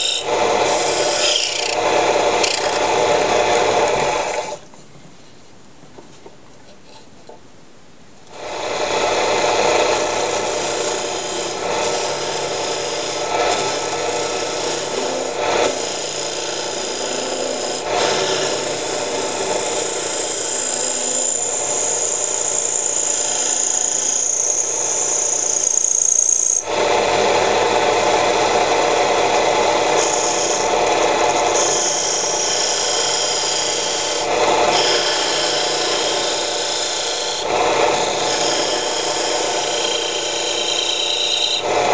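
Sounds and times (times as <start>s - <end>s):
lathe tool scraping wood: 0.0s - 4.6s, 8.3s - 41.9s.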